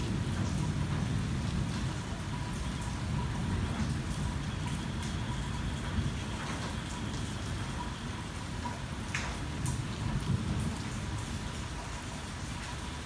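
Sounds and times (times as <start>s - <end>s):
rain on a car roof: 0.0s - 13.0s
raindrops ticking sharply: 0.0s - 13.0s.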